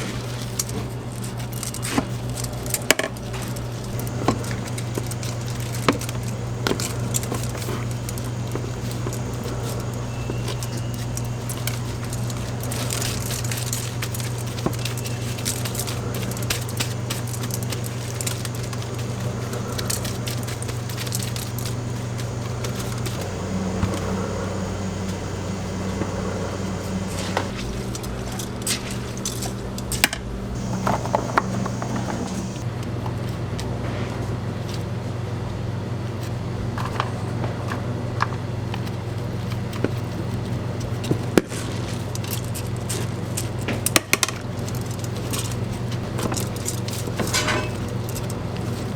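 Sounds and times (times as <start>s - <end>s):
scattered clicks and clatters: 0.0s - 33.7s, 36.2s - 48.9s
low machine hum: 0.0s - 48.9s.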